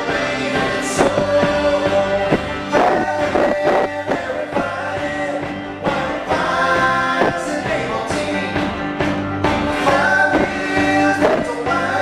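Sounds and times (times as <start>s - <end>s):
man singing: 0.0s - 8.7s, 9.7s - 12.0s
banjo playing: 0.0s - 12.0s
upright bass: 0.0s - 12.0s.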